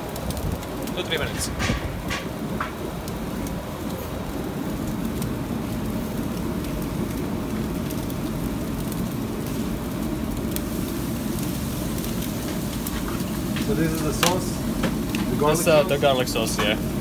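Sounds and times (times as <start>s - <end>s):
kitchen equipment hum: 1.0s - 17.0s.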